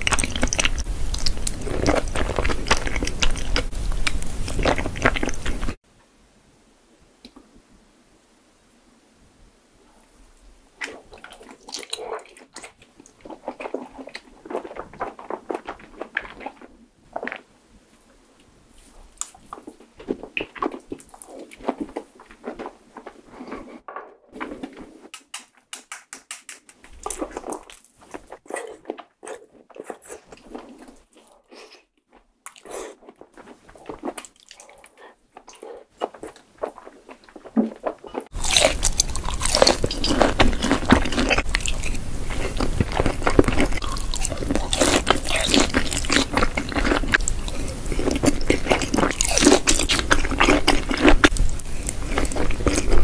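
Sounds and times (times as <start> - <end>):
chewing and wet mouth sounds: 0.0 - 5.8, 10.8 - 17.5, 18.8 - 23.8, 26.7 - 53.0.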